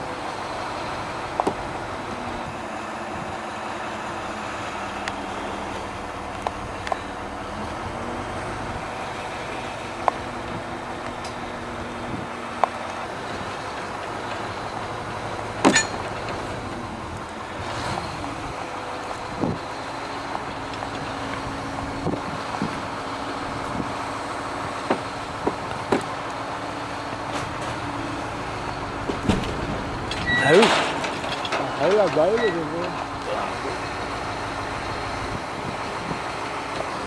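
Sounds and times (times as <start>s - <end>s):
crane engine running: 0.0s - 37.0s.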